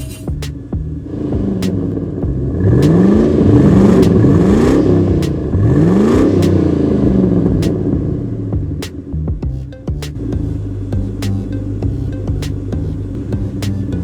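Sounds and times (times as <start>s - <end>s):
steady engine drone: 0.0s - 14.0s
engine revving in rising sweeps: 0.4s - 14.0s.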